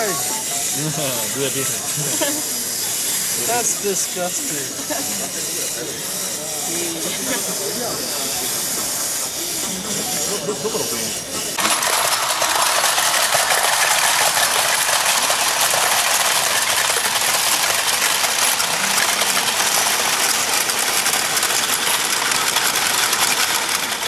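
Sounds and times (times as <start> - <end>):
hall noise with voices: 0.0 - 13.0, 13.7 - 22.7
toy coin bank mechanisms: 0.0 - 24.0.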